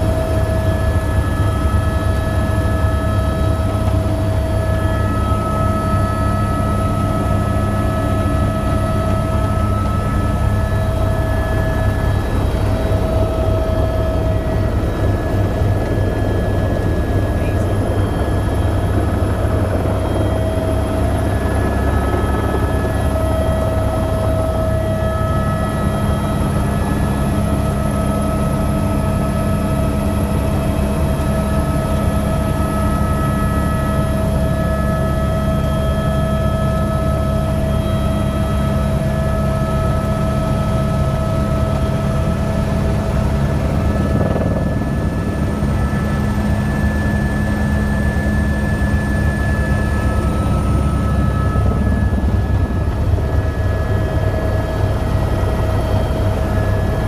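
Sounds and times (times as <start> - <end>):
helicopter rotor beat: 0.0 - 57.0
high turbine whine: 0.0 - 57.0.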